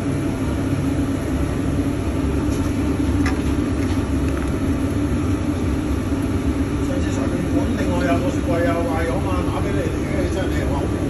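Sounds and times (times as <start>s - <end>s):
machinery droning with low hum: 0.0s - 11.0s.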